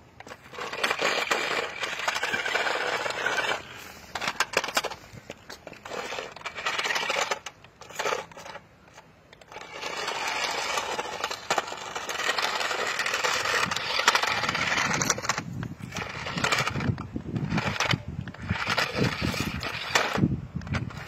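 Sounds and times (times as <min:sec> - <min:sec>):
toy car rattling over asphalt: 0:00.0 - 0:21.0.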